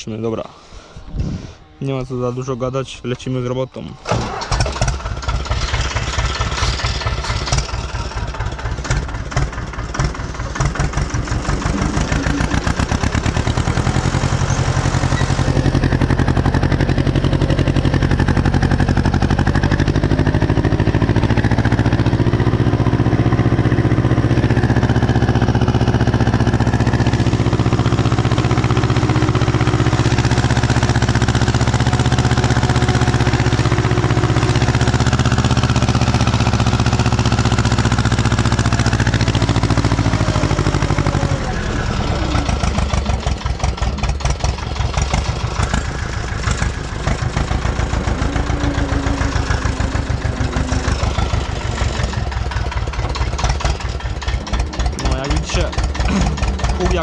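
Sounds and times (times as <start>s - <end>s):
tractor diesel engine chugging: 2.3s - 57.0s.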